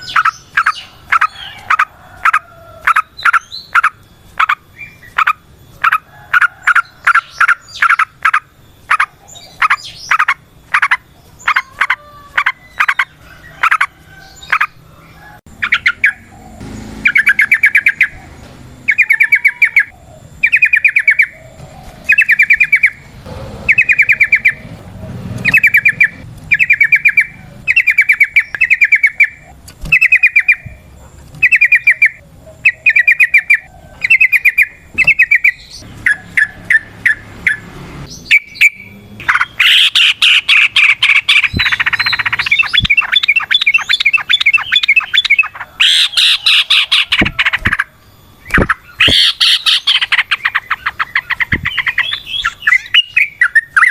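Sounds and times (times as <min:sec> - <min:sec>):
bird rapid trills: 0:00.0 - 0:53.9.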